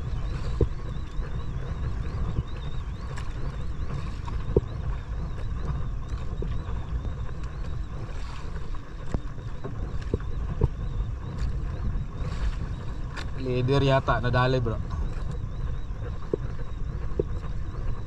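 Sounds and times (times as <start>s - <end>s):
wind and boat rumble: 0.0s - 18.0s.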